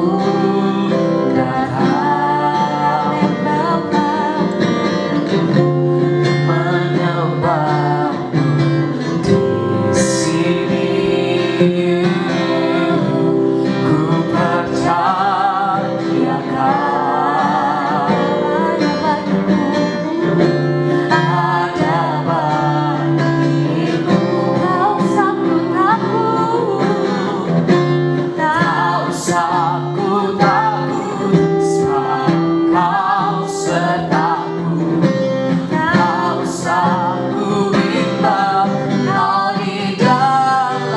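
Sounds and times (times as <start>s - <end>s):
guitar accompaniment: 0.0s - 40.9s
person singing with vibrato: 0.0s - 40.9s.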